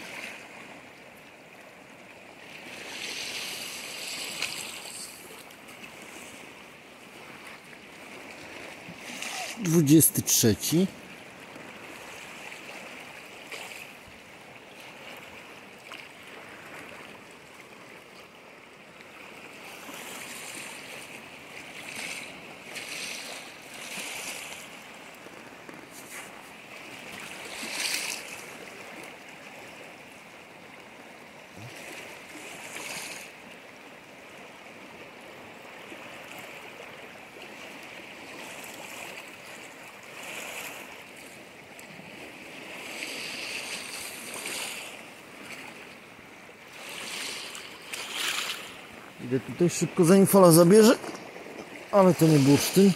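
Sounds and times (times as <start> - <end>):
small waves washing on shore: 0.0 - 52.9.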